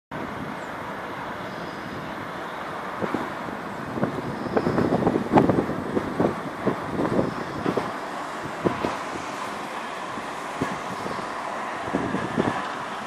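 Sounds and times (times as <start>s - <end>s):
distant road traffic hum: 0.1s - 13.0s.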